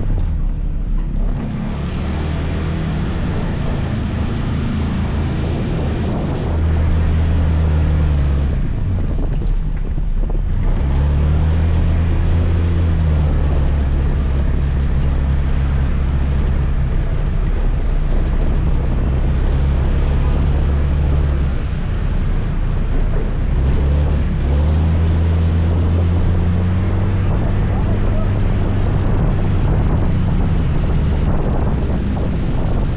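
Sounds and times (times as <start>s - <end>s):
wind and road noise: 0.0s - 32.9s.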